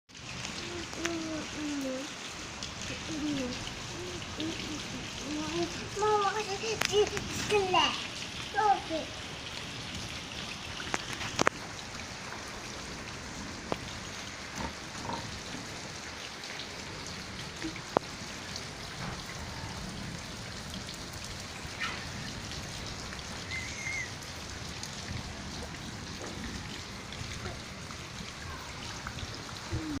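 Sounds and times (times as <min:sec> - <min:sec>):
rain falling: 0:00.1 - 0:30.0
sharp rain taps: 0:00.1 - 0:30.0.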